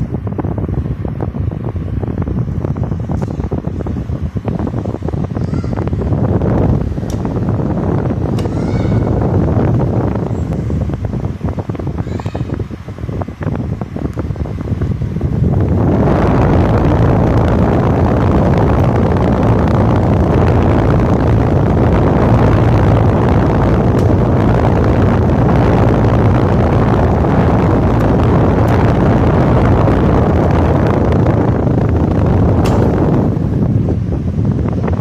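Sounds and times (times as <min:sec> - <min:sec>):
fan wind on microphone: 0:00.0 - 0:35.0.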